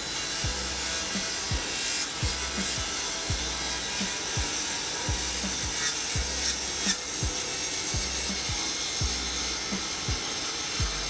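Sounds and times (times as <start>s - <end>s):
music with bass-drum beat: 0.0s - 11.0s
track saw cutting wood: 0.0s - 11.0s.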